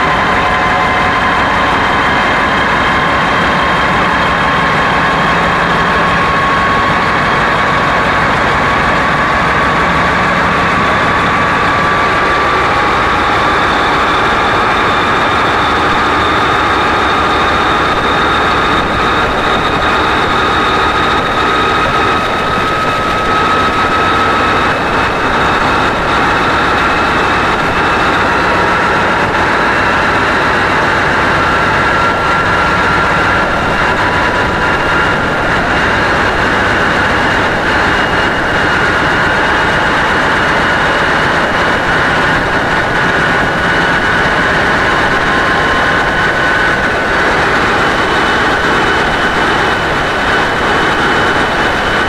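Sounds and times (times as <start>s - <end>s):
diesel locomotive engine revving: 0.0s - 52.0s
high whine rising in pitch: 0.0s - 52.0s.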